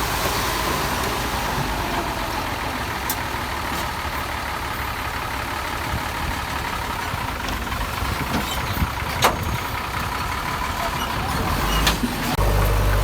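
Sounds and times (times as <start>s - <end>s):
diesel machinery engine rumble: 0.0s - 13.0s.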